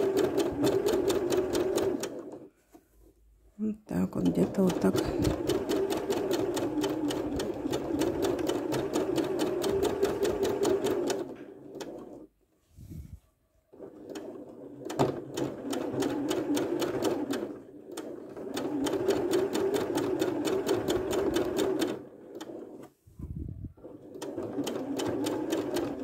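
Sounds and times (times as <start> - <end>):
sewing machine running: 0.0 - 2.4, 4.2 - 12.3, 13.8 - 22.8, 23.8 - 26.0.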